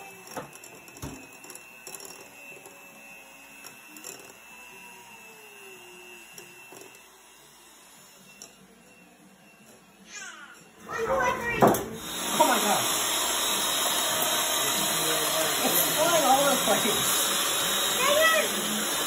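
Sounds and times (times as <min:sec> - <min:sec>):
electric hand mixer whining: 0:00.0 - 0:19.0.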